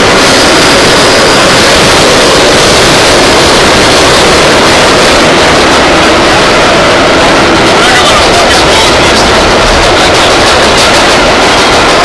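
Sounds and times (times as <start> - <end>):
subway wheel and track noise: 0.0 - 12.0.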